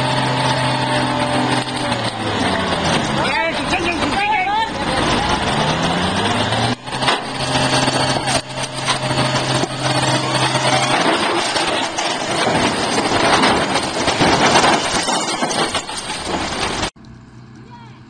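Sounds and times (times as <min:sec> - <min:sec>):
crane crashing down: 0:00.0 - 0:17.0
crane engine humming: 0:00.0 - 0:18.0.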